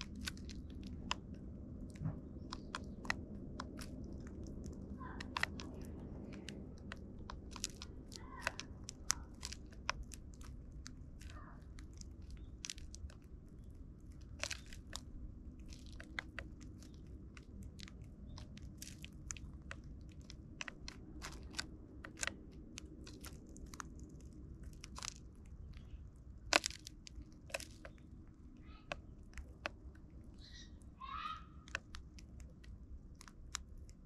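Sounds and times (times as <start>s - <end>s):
birds pecking seed on tray: 0.0s - 34.0s.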